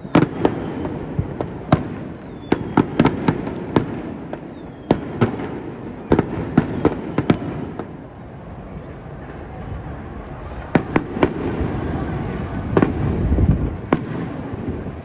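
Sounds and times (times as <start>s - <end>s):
fireworks bursting bangs: 0.0s - 15.0s.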